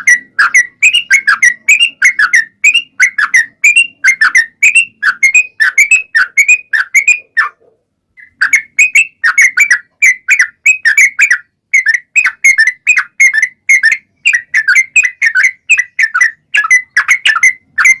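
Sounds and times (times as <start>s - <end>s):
bulbul singing bubbly chirps: 0.0s - 7.5s, 8.2s - 18.0s.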